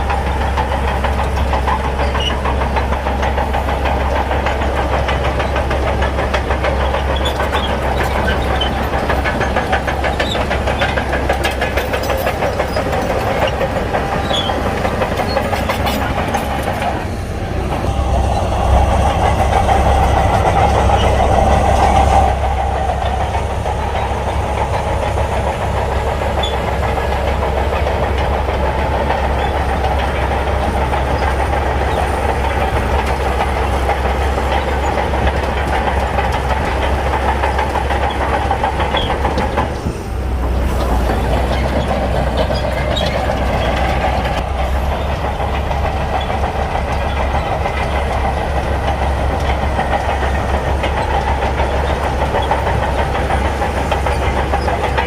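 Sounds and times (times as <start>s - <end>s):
heavy diesel engine under load: 0.0s - 55.0s
metallic track clatter: 0.0s - 55.0s.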